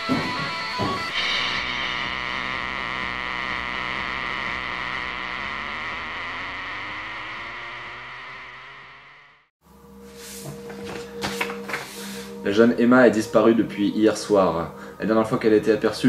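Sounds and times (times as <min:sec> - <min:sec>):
electronic drone with hiss: 0:00.0 - 0:15.4.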